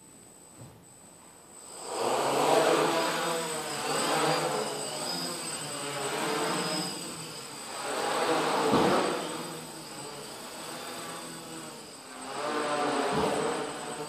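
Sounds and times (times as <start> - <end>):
drone propellers buzzing whine: 1.4 - 14.0.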